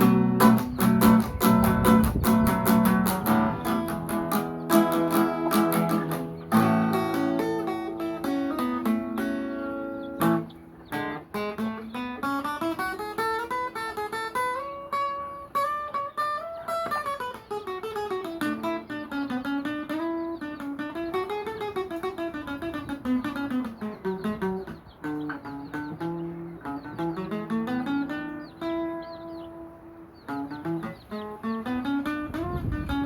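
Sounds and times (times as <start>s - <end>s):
acoustic guitar plucked melody: 0.0s - 33.0s.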